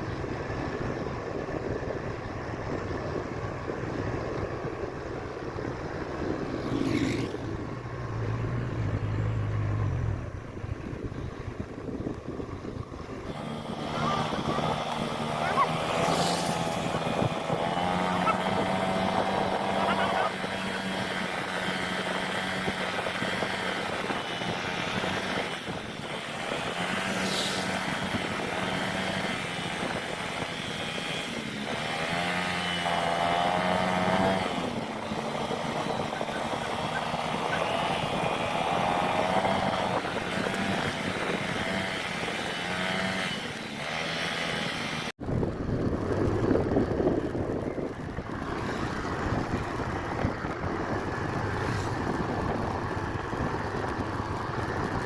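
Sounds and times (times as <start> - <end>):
road and wind noise: 0.0 - 55.0
scooter engine running: 0.0 - 55.0
wind rumble on microphone: 0.0 - 55.0.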